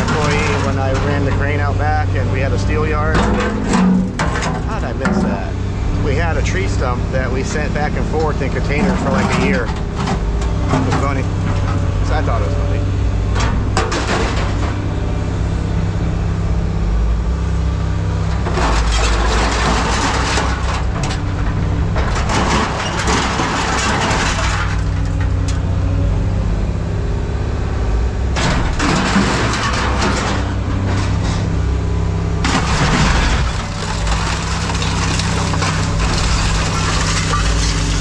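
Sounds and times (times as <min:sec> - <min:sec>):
heavy machinery engine droning: 0:00.0 - 0:38.0.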